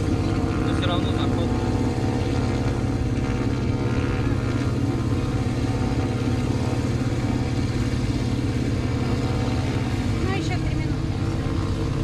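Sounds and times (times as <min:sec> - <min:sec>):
aircraft piston engine idling: 0:00.0 - 0:12.0.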